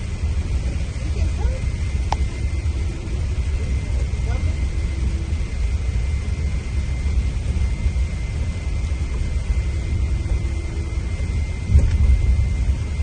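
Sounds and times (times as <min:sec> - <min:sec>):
diesel engine rumbling: 0:00.0 - 0:13.0
thin high whine: 0:01.2 - 0:13.0.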